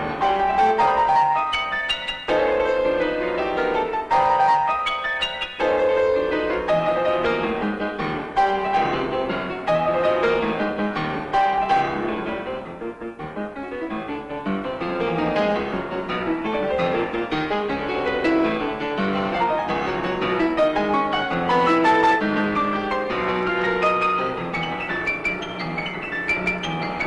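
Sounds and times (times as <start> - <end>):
fast solo piano passage: 0.0 - 27.0.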